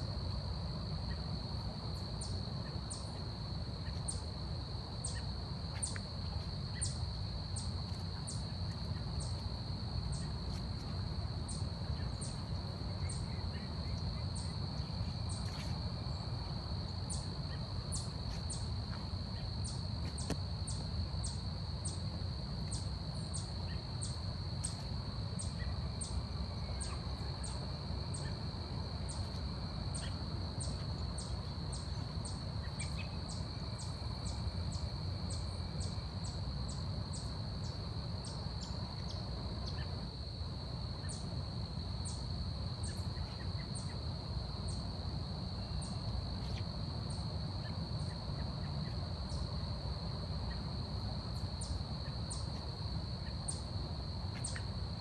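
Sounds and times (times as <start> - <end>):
high-pitched insect trill: 0.0 - 55.0.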